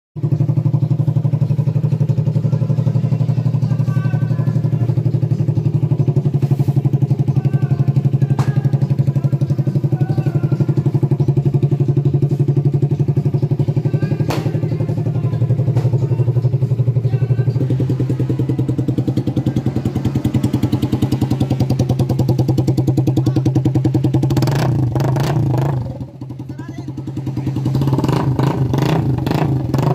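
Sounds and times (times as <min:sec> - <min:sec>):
motorcycle engine idling: 0:00.2 - 0:29.9.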